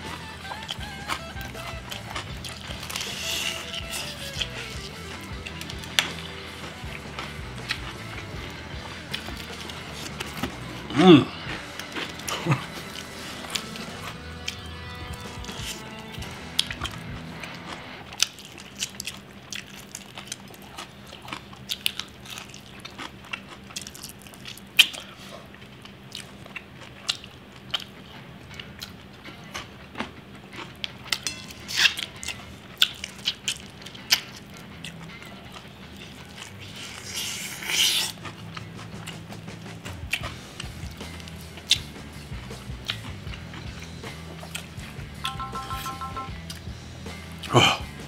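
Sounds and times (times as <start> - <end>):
chewing crispy fried chicken: 0.0 - 45.2.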